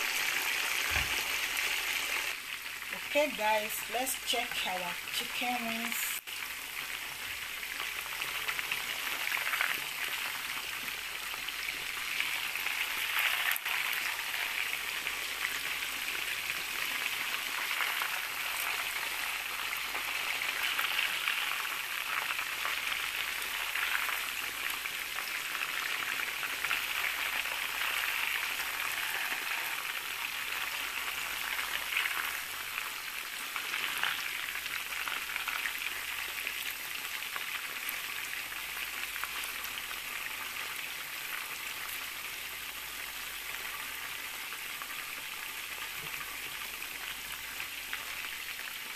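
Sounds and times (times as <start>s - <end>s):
deep-frying sizzle in oil: 0.0s - 48.9s.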